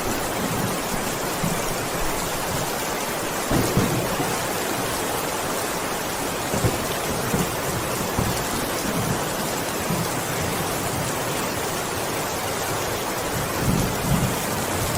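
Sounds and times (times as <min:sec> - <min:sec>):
heavy rain: 0:00.0 - 0:14.9.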